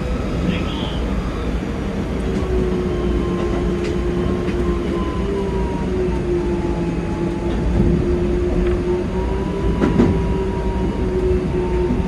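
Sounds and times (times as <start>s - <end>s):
traction motor whine: 0.0s - 12.0s
train wheels rumbling on rail: 0.0s - 12.0s.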